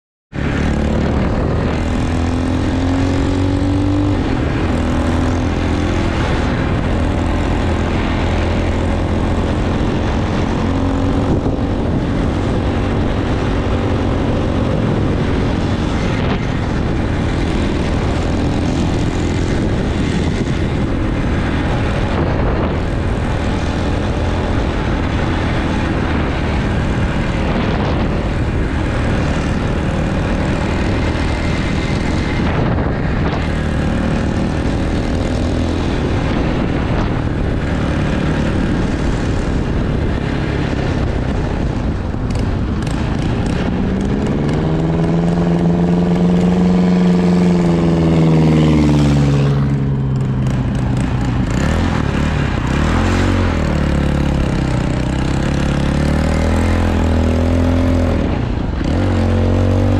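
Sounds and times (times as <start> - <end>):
dirt bike engine: 0.3 - 59.9
wind noise on microphone: 0.3 - 59.9.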